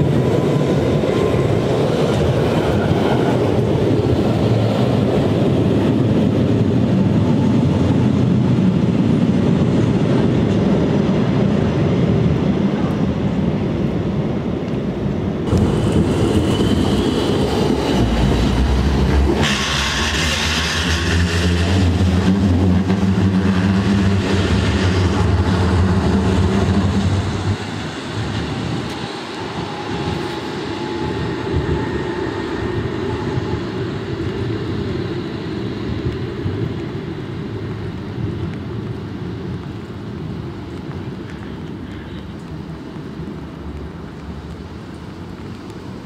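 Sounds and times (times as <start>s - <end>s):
electric tram humming: 0.0s - 46.0s
tram rolling rush: 0.0s - 46.0s.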